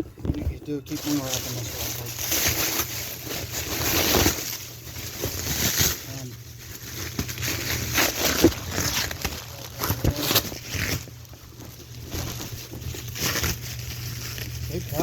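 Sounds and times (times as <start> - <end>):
bubble wrap rustling and crinkling: 0.0 - 15.0.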